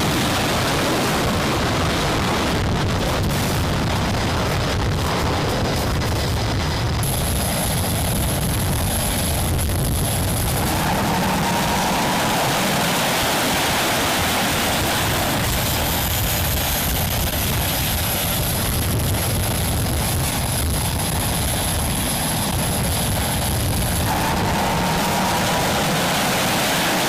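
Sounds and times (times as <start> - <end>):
high-pitched engine whine: 0.0 - 27.0
jet engines rushing: 0.0 - 27.0.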